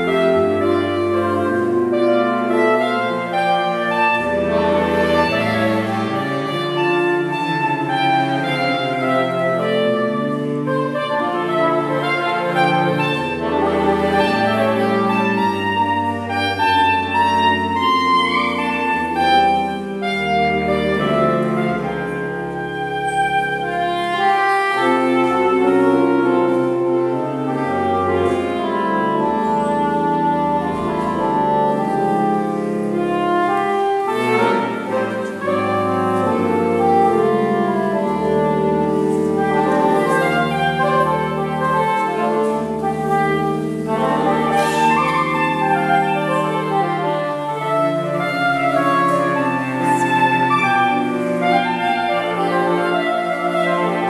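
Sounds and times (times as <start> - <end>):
saxophone quartet playing in harmony: 0.0 - 54.0.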